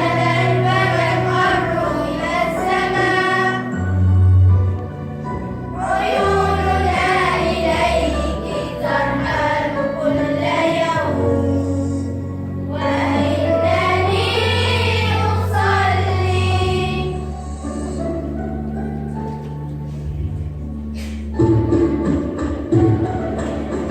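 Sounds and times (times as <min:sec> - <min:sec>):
children's choir singing: 0:00.0 - 0:19.2
instrumental backing with bass notes: 0:00.0 - 0:23.9.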